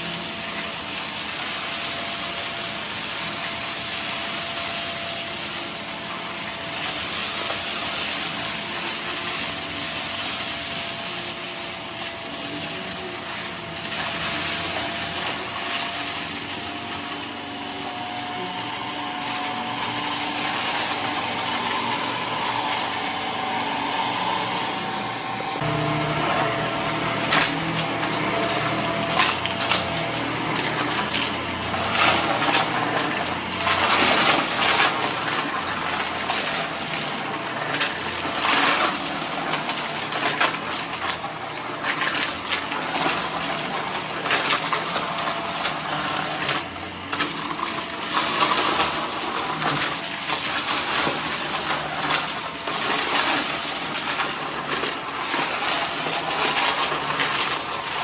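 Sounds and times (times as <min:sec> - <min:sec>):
debris rattling and crackling: 0:00.0 - 0:24.7, 0:27.1 - 0:58.0
vacuum cleaner sucking debris: 0:00.0 - 0:58.0.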